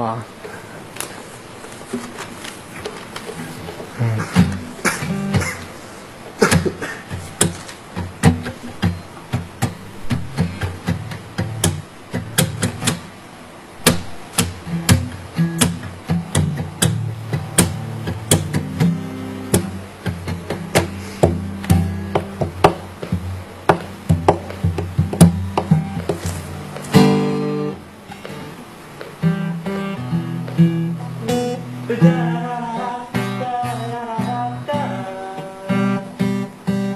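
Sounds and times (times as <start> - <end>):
acoustic guitar strumming: 1.9 - 36.9.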